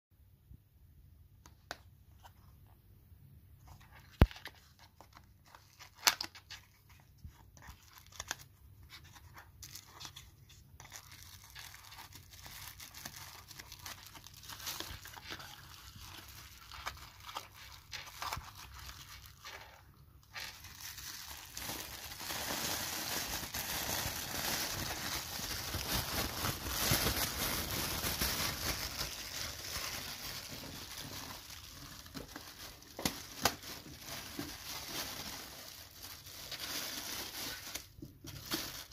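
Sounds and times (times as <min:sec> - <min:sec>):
plastic crinkling and rustling: 0:03.6 - 0:38.9.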